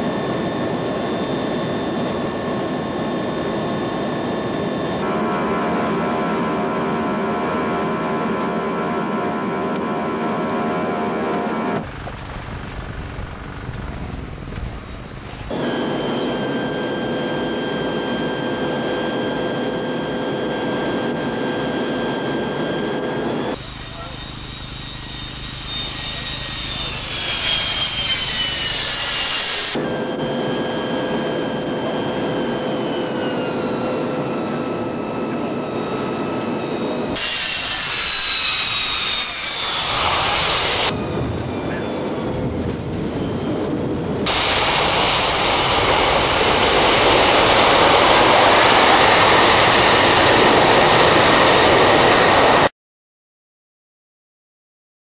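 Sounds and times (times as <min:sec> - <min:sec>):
high engine whine: 0:00.0 - 0:52.7
jet plane passing low: 0:00.0 - 0:52.7.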